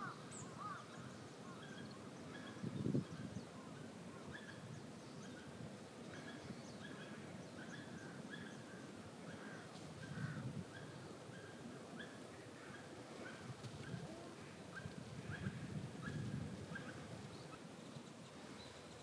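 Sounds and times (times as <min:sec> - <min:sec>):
birds calling faintly: 0:00.0 - 0:19.0.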